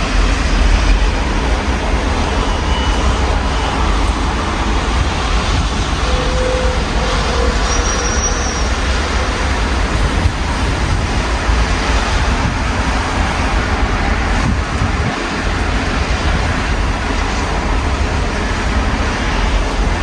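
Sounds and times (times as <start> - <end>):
rain hissing: 0.0 - 20.0
rumble of passing vehicles: 0.0 - 20.0.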